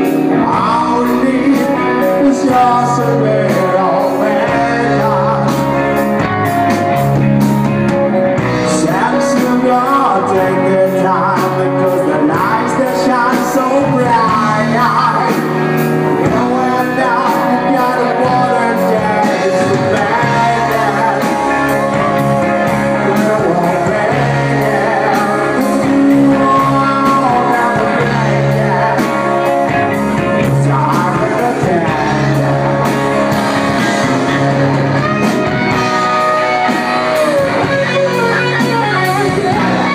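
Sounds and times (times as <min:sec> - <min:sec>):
man singing: 0:00.0 - 0:06.8, 0:08.3 - 0:39.9
bass guitar: 0:00.0 - 0:39.9
electric guitars: 0:00.0 - 0:39.9
live rock band playing: 0:00.0 - 0:39.9.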